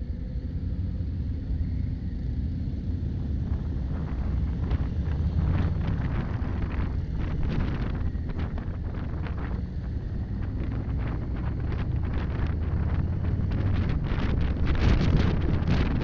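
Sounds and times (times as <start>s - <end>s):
wind buffeting microphone: 1.6s - 16.0s
motorcycle engine rumbling: 2.8s - 16.0s.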